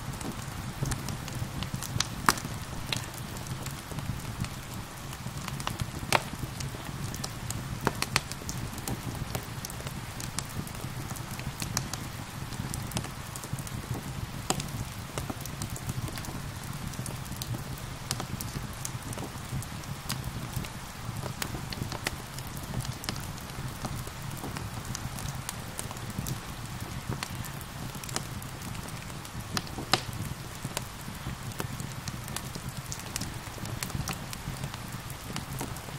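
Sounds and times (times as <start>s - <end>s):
steady rain: 0.0s - 35.9s
wood fire crackling: 0.0s - 35.9s
sharp pops of fire: 0.2s - 35.9s.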